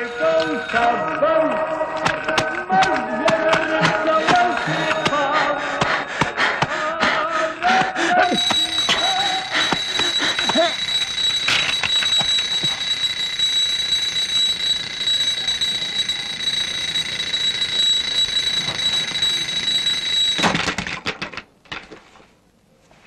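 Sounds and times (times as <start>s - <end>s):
alarm clock bell ringing: 0.0s - 20.6s.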